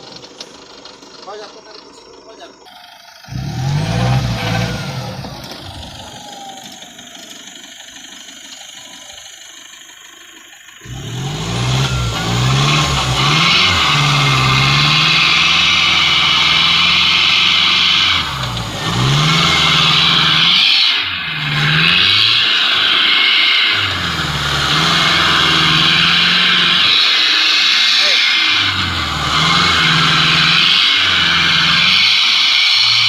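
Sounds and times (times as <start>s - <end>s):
pickup truck engine revving: 0.0s - 33.0s.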